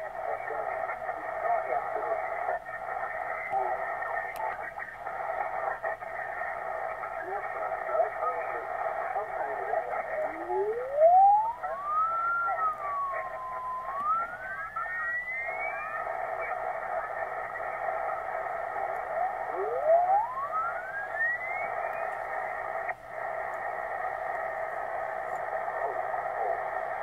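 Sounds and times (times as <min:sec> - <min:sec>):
radio static: 0:00.0 - 0:27.0
whistling radio beat tones: 0:00.2 - 0:27.0.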